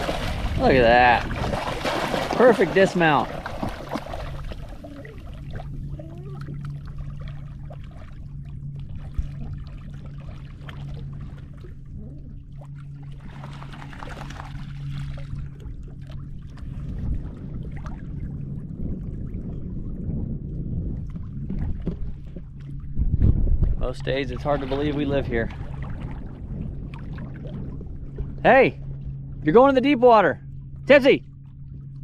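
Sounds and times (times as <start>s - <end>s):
boat low hum: 0.0s - 32.0s
water trickling and lapping: 0.0s - 32.0s.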